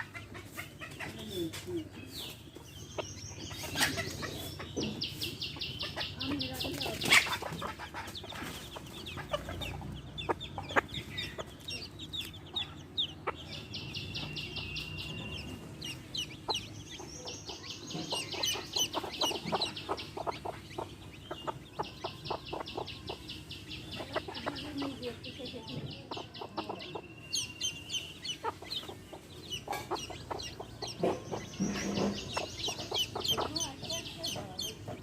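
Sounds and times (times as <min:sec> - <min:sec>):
baby chicks peeping: 0:00.0 - 0:35.0
hen clucking: 0:00.0 - 0:35.0.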